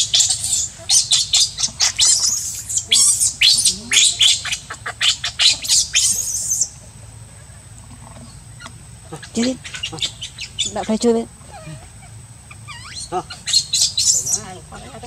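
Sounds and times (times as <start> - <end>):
baby monkey screaming: 0.0 - 6.8, 8.6 - 15.0.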